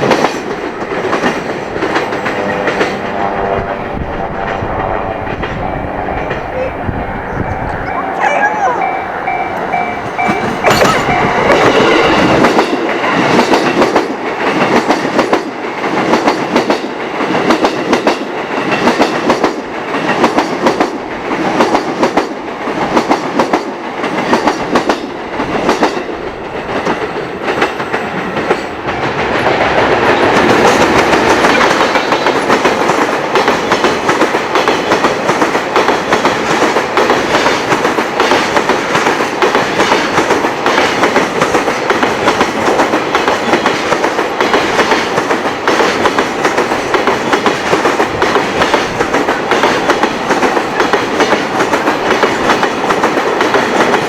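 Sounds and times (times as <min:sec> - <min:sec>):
train wheels clattering over rail joints: 0:00.0 - 0:03.0, 0:09.6 - 0:54.0
train rushing noise: 0:00.0 - 0:54.0.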